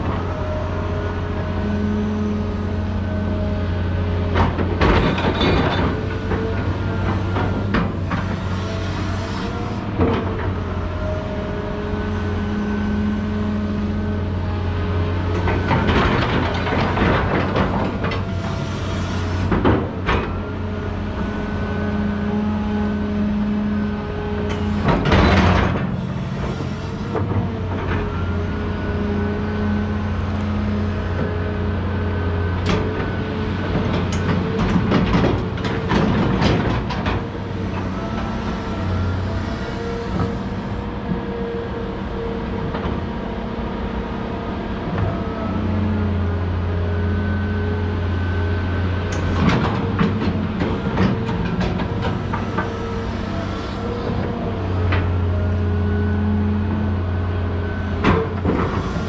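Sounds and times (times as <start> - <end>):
diesel engine low hum: 0.0 - 59.0
hydraulic whine: 0.0 - 59.0.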